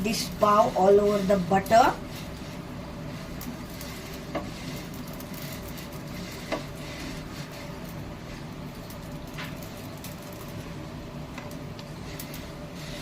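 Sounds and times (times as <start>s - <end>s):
buns sizzling in butter: 0.0s - 13.0s.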